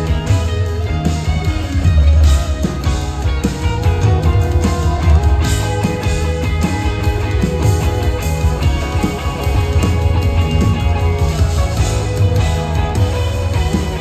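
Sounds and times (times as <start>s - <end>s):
bass: 0.0s - 14.0s
drums: 0.0s - 14.0s
electric guitar lines: 0.0s - 14.0s.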